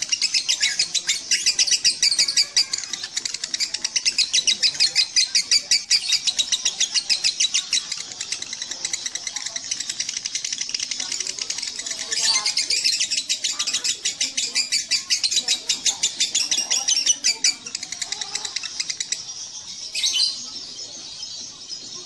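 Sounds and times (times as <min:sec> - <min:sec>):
lovebird chattering: 0:00.0 - 0:21.6.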